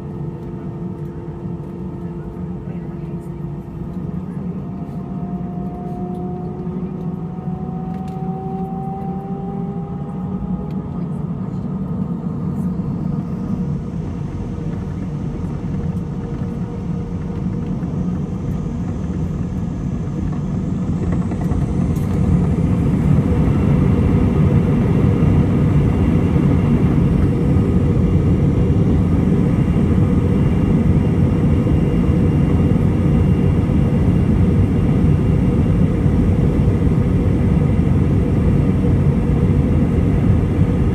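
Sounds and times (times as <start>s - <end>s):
wheels rumbling on runway: 0.0s - 40.9s
jet engines spooling up: 3.9s - 40.9s.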